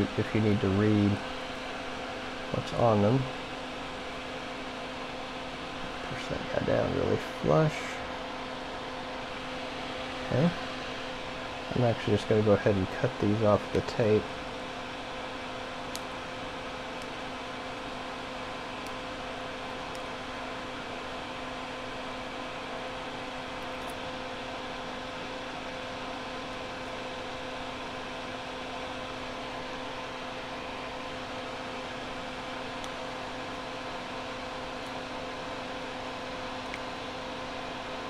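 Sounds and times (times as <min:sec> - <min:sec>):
background hum and hiss: 0:00.0 - 0:38.0.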